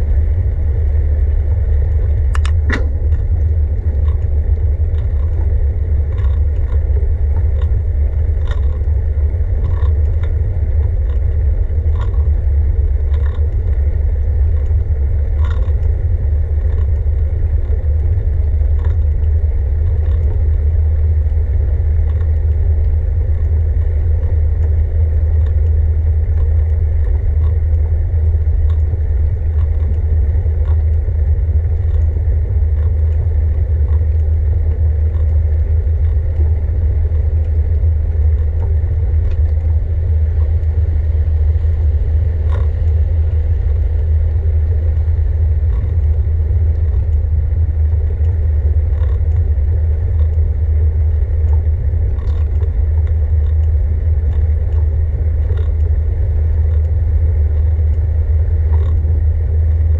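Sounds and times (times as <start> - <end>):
bicycle tyre and road noise: 0.0 - 59.9
wind buffeting microphone: 0.0 - 59.9
bike clicks and rattles: 1.9 - 12.4, 13.0 - 16.0, 16.6 - 22.6, 23.4 - 40.8, 41.6 - 43.0, 44.9 - 58.0, 58.7 - 59.1.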